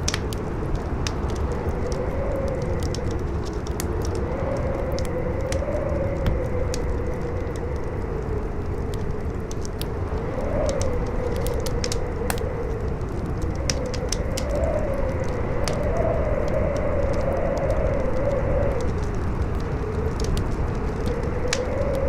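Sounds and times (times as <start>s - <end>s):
campfire crackling: 0.0s - 22.0s
low wind rumble: 0.0s - 22.0s
wind howling: 0.0s - 22.0s.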